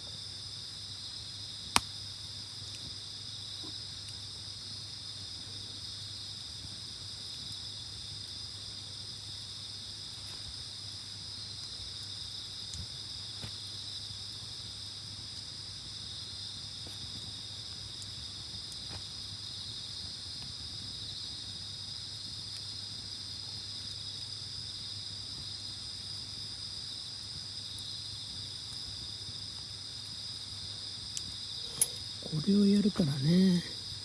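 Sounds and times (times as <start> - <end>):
crickets chirring: 0.0 - 34.0
faint campfire snaps: 1.6 - 4.3, 6.4 - 9.0, 9.7 - 32.4.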